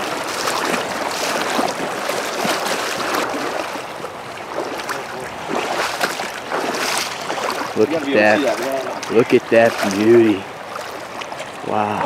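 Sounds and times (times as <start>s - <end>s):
stream rushing over gravel: 0.0s - 12.0s.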